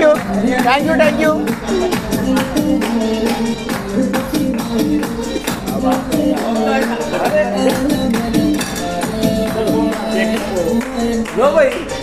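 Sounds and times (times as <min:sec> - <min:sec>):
fast percussion beat: 0:00.0 - 0:12.0.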